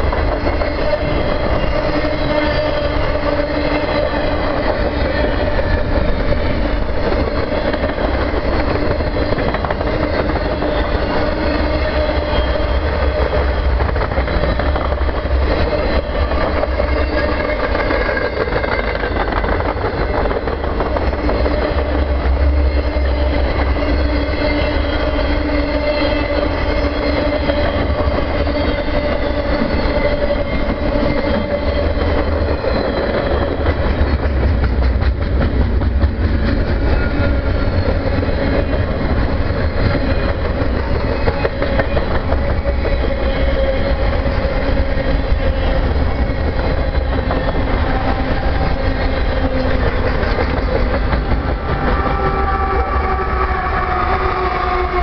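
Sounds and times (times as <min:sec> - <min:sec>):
wheels clickety-clack: 0:00.0 - 0:52.9
steel wheels rumbling on rail: 0:00.0 - 0:55.0.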